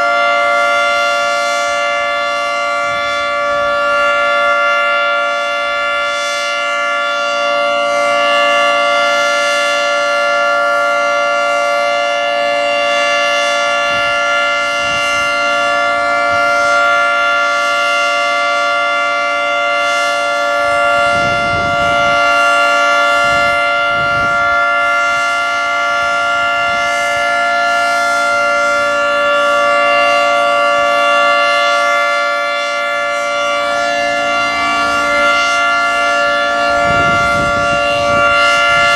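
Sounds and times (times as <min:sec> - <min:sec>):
three-tone siren wailing: 0:00.0 - 0:38.9.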